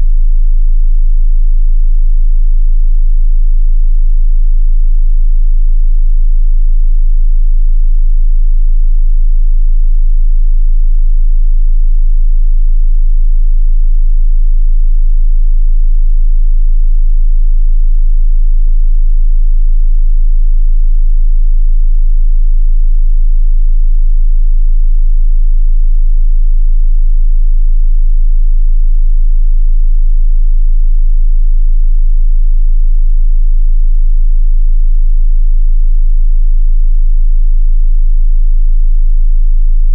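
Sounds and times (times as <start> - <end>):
deep bass test tone: 0.0 - 39.9.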